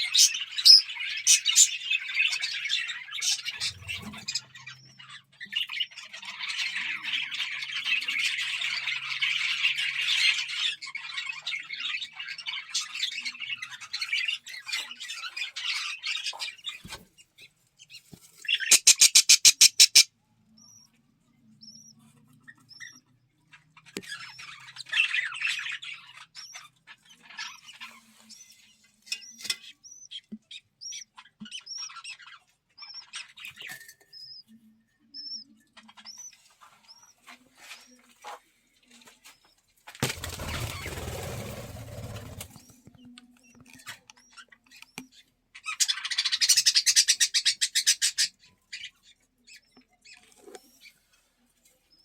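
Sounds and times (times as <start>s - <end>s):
budgerigars chattering and chirping: 0.0s - 21.0s, 21.6s - 34.5s, 35.2s - 38.4s, 40.2s - 42.8s, 43.4s - 51.0s.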